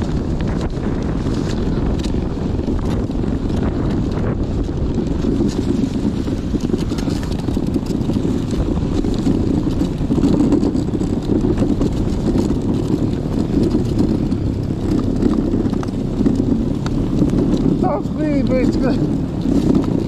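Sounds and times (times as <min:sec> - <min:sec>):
snow bike tracks rumbling: 0:00.0 - 0:20.0.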